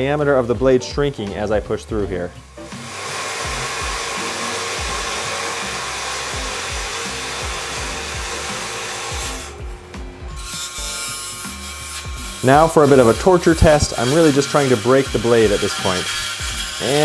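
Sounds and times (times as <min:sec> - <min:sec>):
table saw blade rubbing wood: 0:02.7 - 0:17.0.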